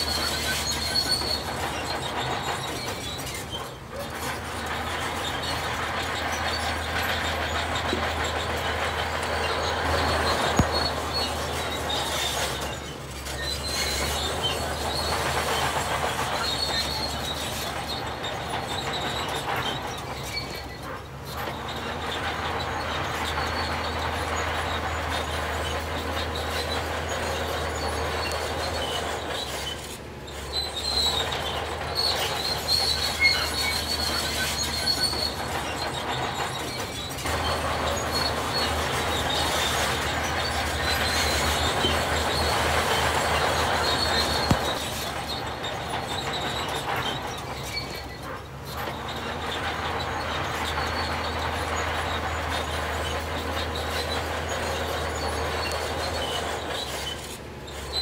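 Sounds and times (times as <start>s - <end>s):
diesel construction machinery: 0.0s - 58.0s.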